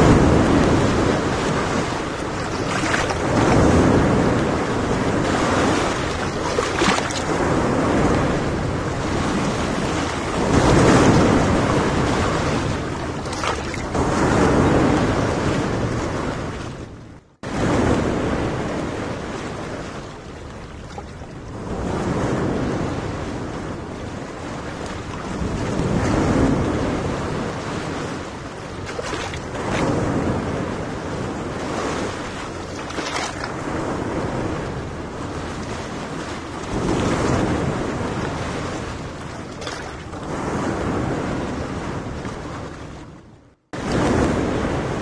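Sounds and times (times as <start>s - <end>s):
small waves washing onto beach: 0.0s - 45.0s
wind buffeting microphone: 0.0s - 45.0s.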